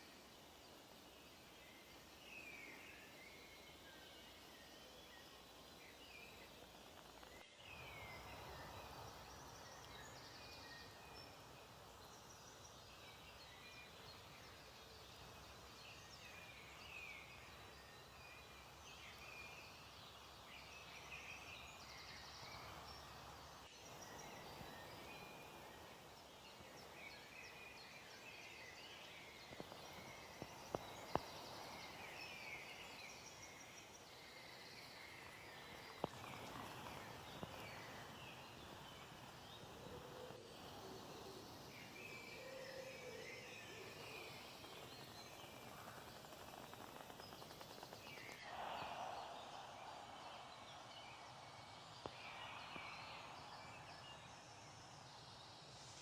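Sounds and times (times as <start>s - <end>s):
small birds chirping: 0.0s - 54.8s
faint outdoor hiss: 0.0s - 56.0s.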